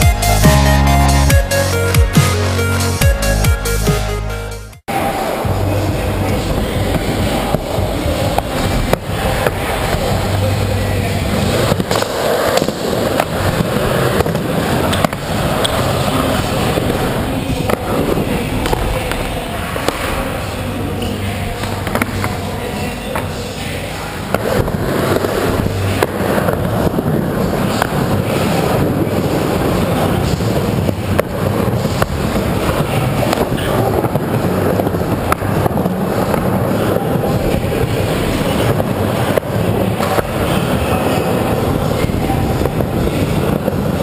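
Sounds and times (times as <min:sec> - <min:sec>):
skateboard wheels rolling: 0:04.9 - 0:44.0.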